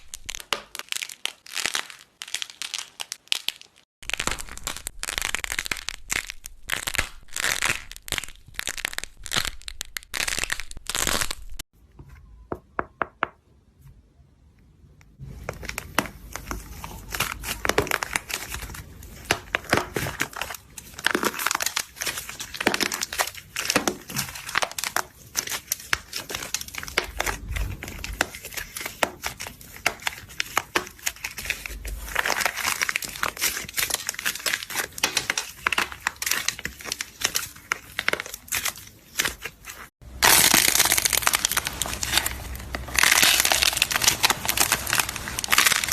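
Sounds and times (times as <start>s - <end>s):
close-up crackling and crinkling: 0.0s - 12.4s, 15.1s - 45.9s.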